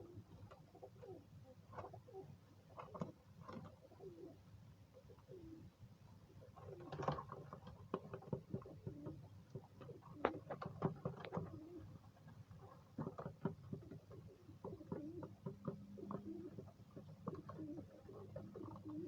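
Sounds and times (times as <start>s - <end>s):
pigeons cooing: 0.0s - 7.6s, 8.2s - 19.0s.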